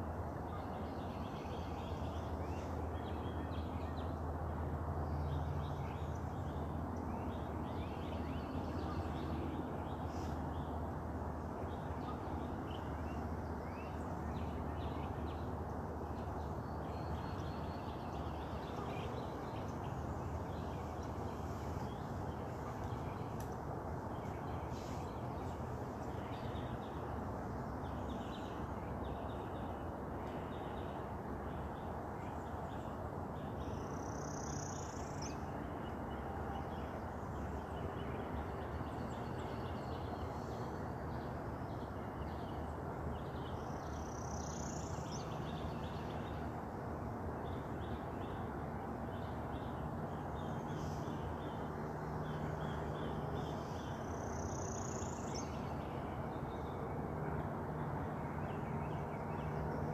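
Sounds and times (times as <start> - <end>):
background hiss and rumble: 0.0 - 59.9.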